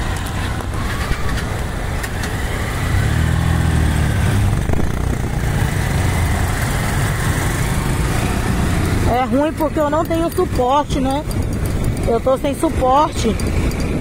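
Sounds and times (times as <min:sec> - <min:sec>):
small motorcycle engines: 0:00.0 - 0:14.0.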